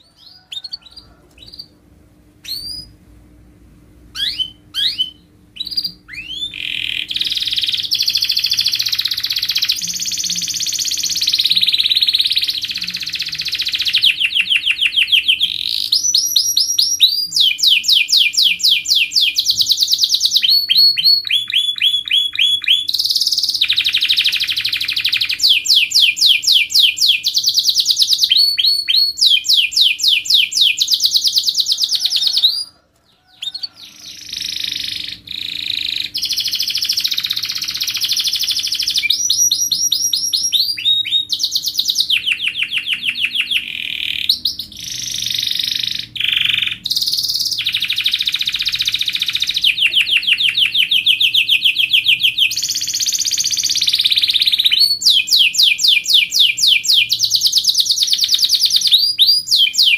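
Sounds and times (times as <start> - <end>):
canary singing trills: 0.0 - 1.8, 2.4 - 3.0, 4.1 - 59.9.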